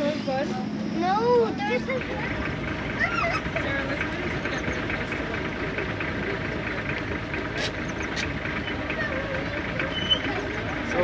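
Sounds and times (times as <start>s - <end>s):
faint voices: 0.0s - 11.0s
vehicle engine running: 0.0s - 11.0s.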